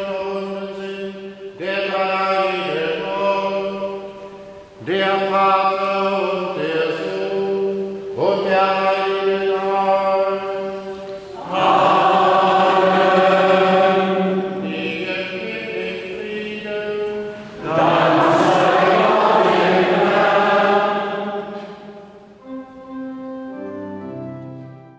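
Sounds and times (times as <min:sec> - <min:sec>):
church chant singing: 0:00.0 - 0:24.9
organ chords: 0:00.0 - 0:24.9.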